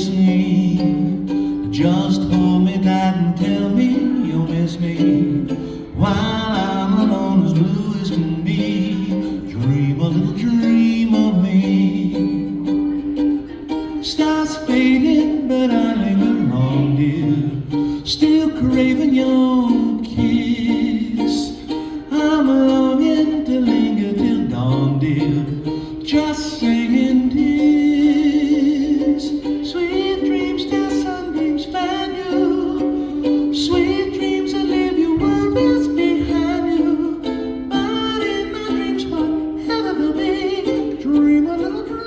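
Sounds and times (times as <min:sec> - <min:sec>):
strummed ukulele: 0:00.0 - 0:42.0.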